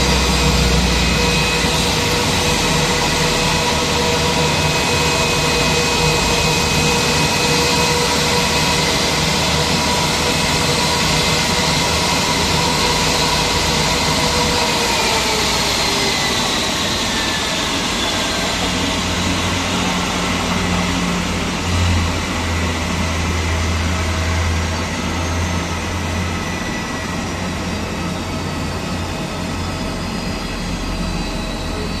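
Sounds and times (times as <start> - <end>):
jet engines idling with high whine: 0.0 - 32.0.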